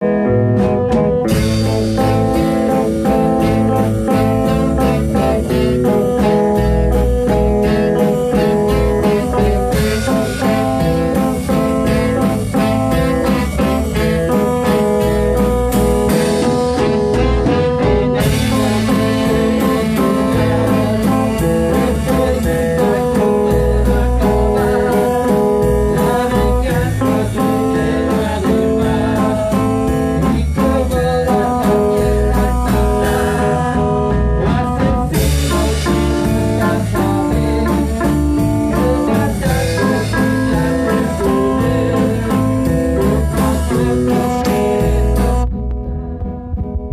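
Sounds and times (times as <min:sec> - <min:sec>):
ska band playing live: 0:00.0 - 0:46.9.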